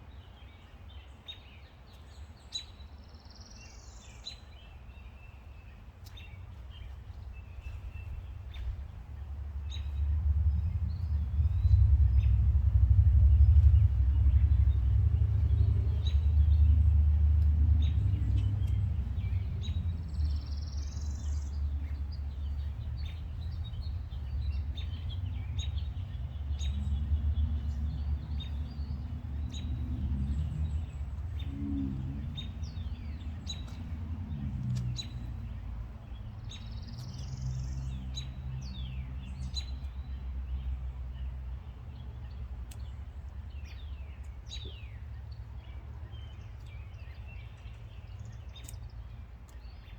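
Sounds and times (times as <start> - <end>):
birds chirping: 0.1 - 49.9
low rumble: 6.2 - 49.9.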